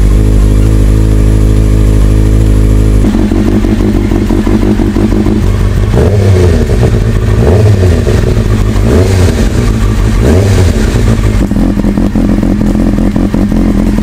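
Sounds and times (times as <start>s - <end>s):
motorcycle engine revving: 0.0s - 14.0s
motorcycle engines running: 0.0s - 14.0s.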